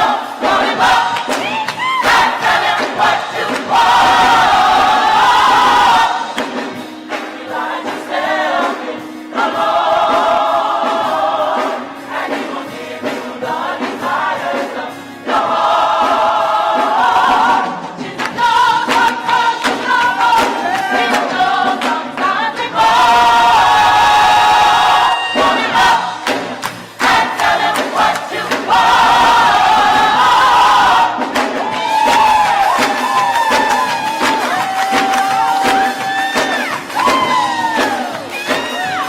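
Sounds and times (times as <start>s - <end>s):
choir singing gospel music: 0.0s - 39.0s.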